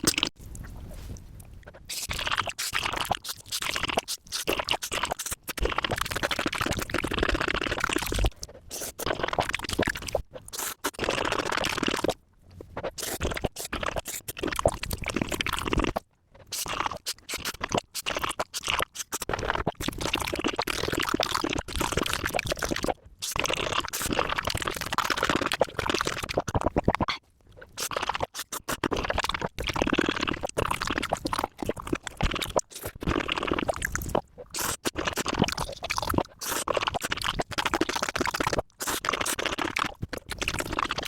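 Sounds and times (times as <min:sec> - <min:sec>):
crunchy food chewing: 0:00.0 - 0:41.0.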